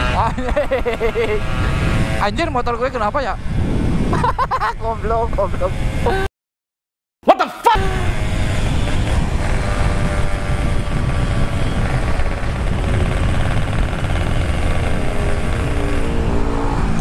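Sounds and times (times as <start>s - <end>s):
wind rumble on microphone: 0.0s - 6.2s, 7.8s - 17.0s
motorcycle engine at speed: 0.0s - 6.3s, 7.8s - 17.0s.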